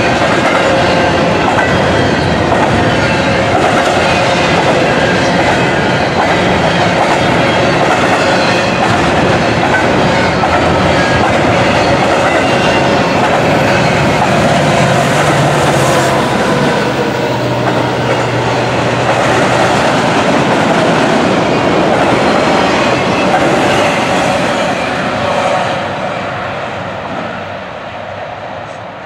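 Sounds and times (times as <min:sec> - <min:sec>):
train wheels rattling on rails: 0:00.0 - 0:29.0.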